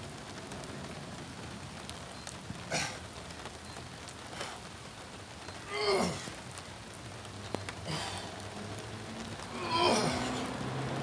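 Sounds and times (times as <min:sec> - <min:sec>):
rain falling on pavement: 0:00.0 - 0:11.0.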